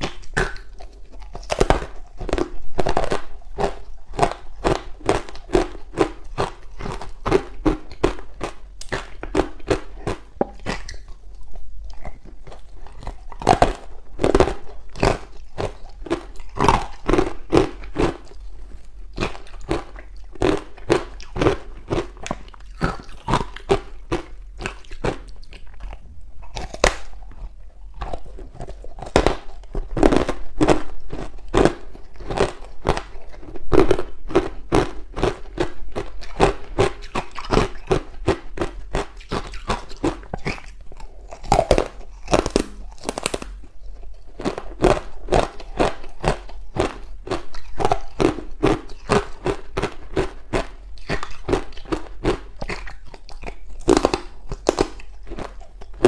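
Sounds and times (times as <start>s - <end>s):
ice crunching while chewed: 0.0s - 56.0s.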